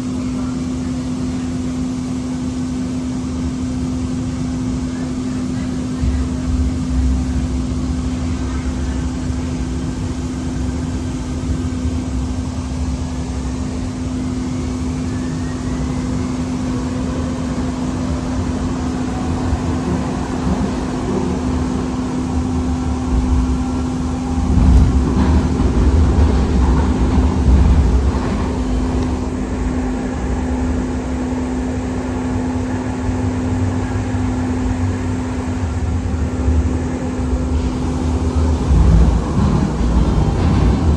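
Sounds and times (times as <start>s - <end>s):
faint gliding whine: 0.0s - 40.9s
light rail vehicle running on track: 0.0s - 40.9s.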